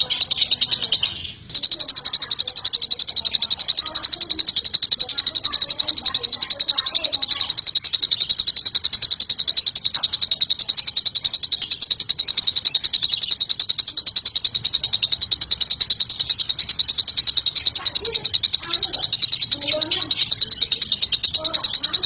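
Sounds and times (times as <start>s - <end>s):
bird singing fast trill: 0.0s - 22.0s.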